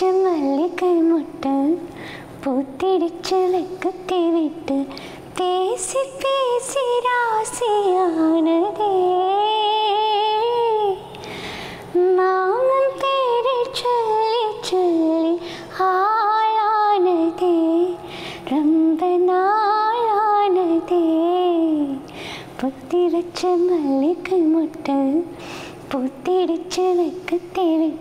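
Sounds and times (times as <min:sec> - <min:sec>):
woman singing unaccompanied: 0:00.0 - 0:11.2, 0:11.9 - 0:28.0.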